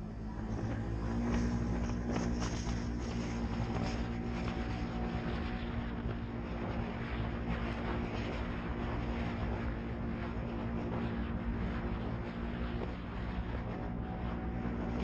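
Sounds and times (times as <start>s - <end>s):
off-road vehicle engine droning: 0.0s - 15.0s.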